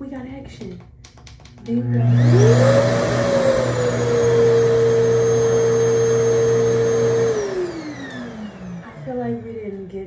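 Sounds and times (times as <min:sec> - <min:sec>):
hair dryer motor whining: 0:01.6 - 0:10.0.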